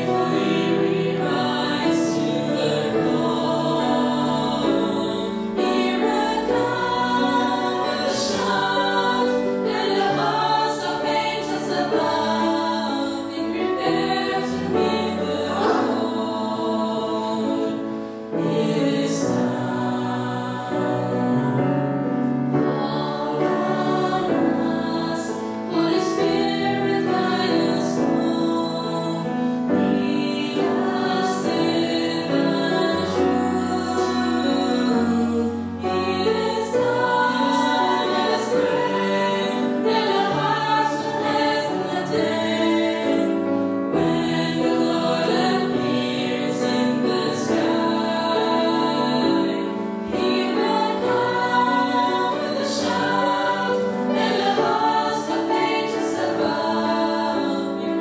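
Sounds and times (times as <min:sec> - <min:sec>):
group of people singing: 0:00.0 - 0:58.0.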